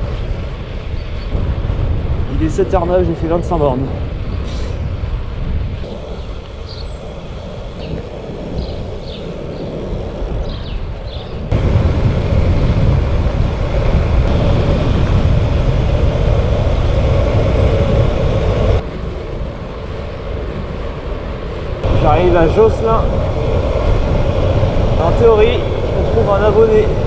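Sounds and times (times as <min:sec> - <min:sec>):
road and tyre noise: 0:00.0 - 0:27.0
wind buffeting microphone: 0:00.0 - 0:27.0.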